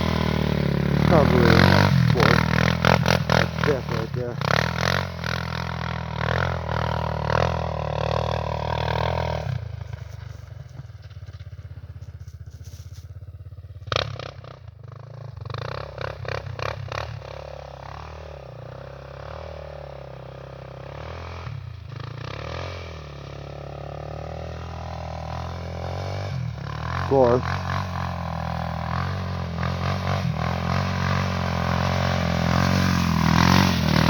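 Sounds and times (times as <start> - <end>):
quad engine running and revving: 0.0 - 34.0.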